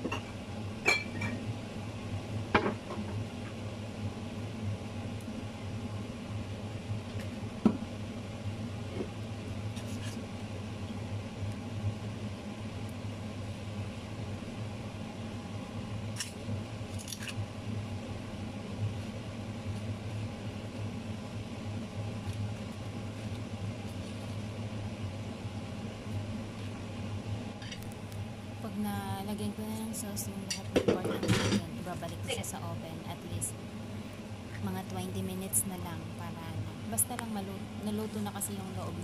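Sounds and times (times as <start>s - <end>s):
oven fan humming: 0.0s - 39.0s.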